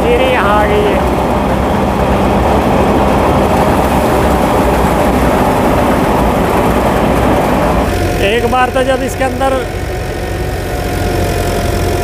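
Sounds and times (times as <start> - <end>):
thresher machine noise: 0.0 - 12.0
tractor diesel engine running: 0.0 - 12.0.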